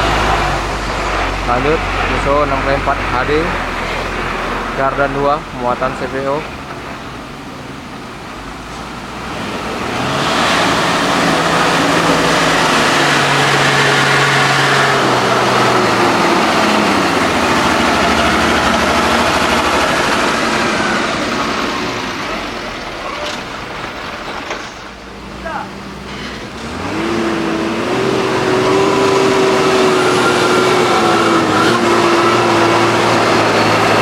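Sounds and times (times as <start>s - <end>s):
truck diesel engine labouring: 0.0s - 34.0s.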